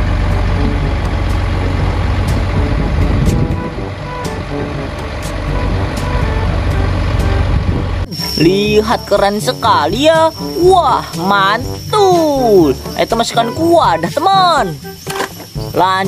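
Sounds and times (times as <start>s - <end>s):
diesel truck engine humming: 0.0s - 16.0s.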